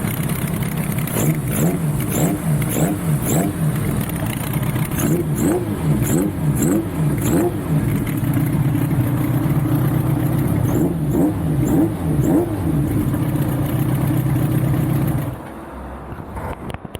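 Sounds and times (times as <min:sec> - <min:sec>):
motorcycle engine idling with throttle blips: 0:00.0 - 0:15.5.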